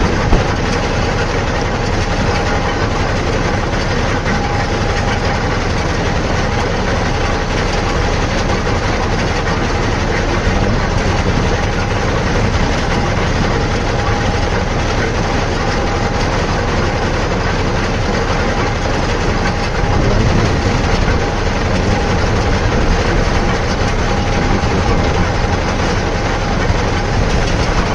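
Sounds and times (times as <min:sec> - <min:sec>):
heavy machinery engine running: 0:00.0 - 0:27.9.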